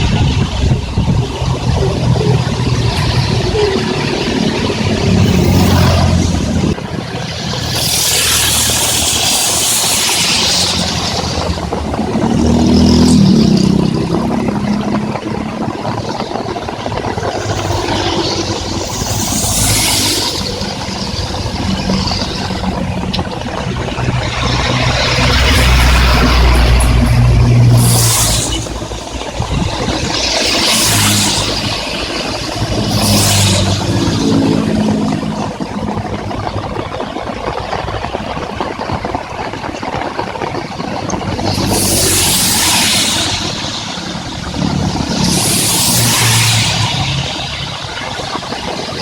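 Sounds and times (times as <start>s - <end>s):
heavy rain falling: 0.0s - 49.0s
tyres hissing on wet road: 0.0s - 49.0s
vehicle engines rumbling: 0.0s - 49.0s.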